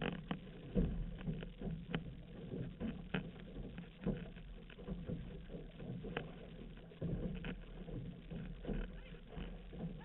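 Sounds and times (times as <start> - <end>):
paddles pulling through water: 0.0 - 10.0
water splashing along canoe hull: 0.0 - 10.0.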